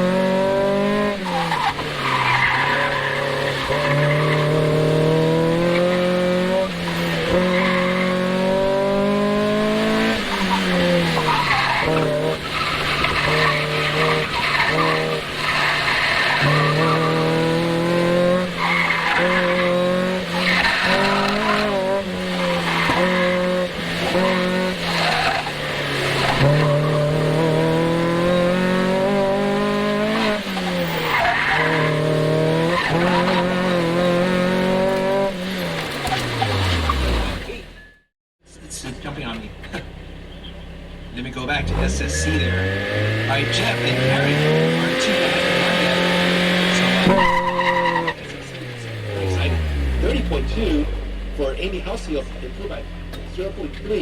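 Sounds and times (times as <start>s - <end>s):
car engine revving: 0.0s - 38.0s, 38.6s - 54.0s
tires squealing: 0.0s - 38.0s, 38.6s - 54.0s.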